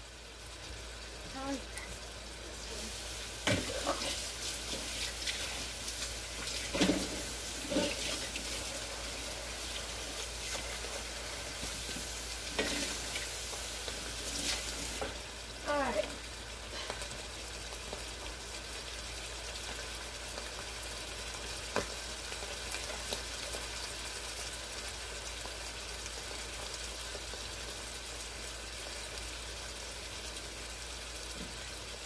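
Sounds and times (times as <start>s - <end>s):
food sizzling in frying pan: 0.0s - 32.0s.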